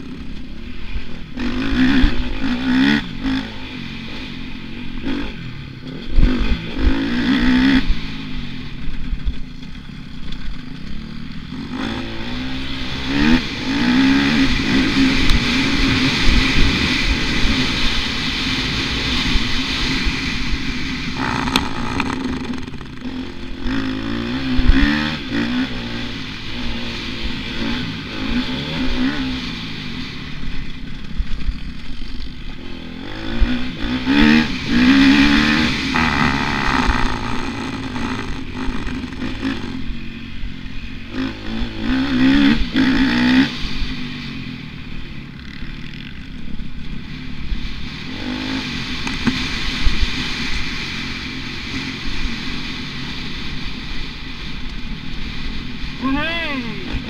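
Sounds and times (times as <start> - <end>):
motocross bike engine revving: 0.0 - 54.5, 55.2 - 57.0.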